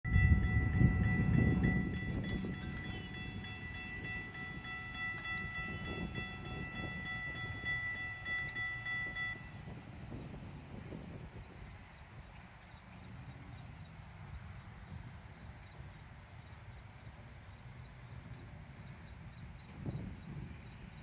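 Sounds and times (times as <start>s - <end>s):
crossing warning bells ringing: 0.0s - 21.0s
low rumble of passing train: 0.0s - 21.0s.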